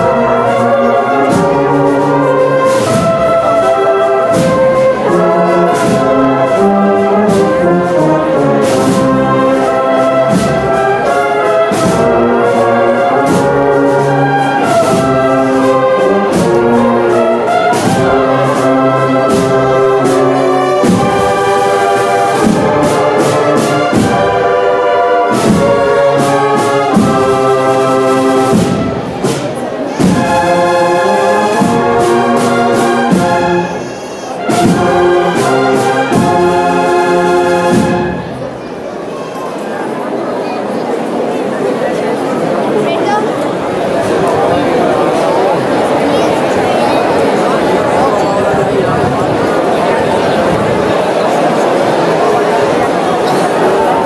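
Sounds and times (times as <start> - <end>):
brass band playing march: 0.0 - 39.0, 41.8 - 54.0.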